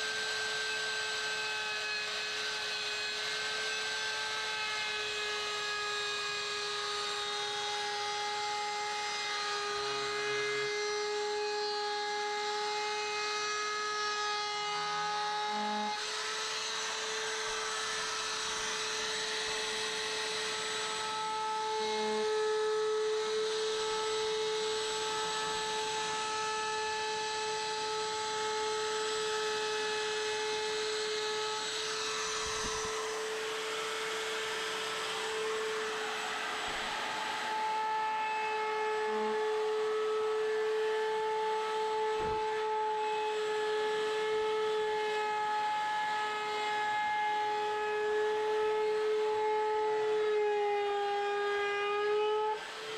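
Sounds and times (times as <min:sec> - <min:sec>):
wood router cutting wood: 0:00.0 - 0:52.9.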